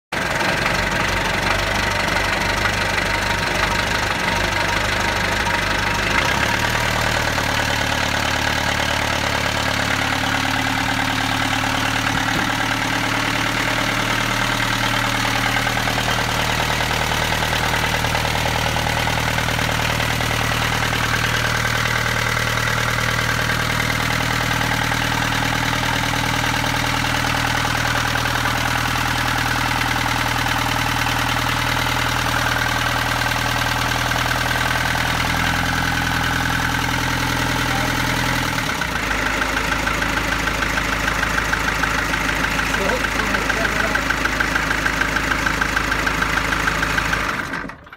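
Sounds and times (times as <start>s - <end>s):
boat diesel engine idling: 0.1s - 47.9s.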